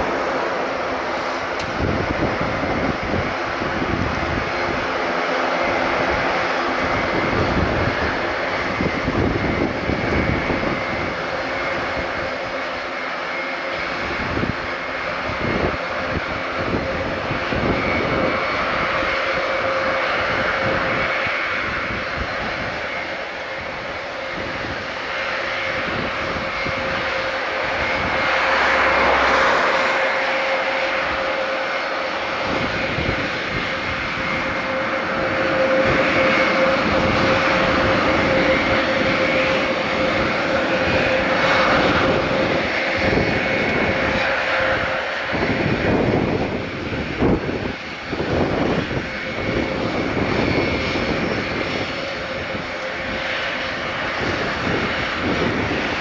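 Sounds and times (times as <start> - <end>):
propeller rush: 0.0 - 56.0
turboprop engines droning: 0.0 - 56.0.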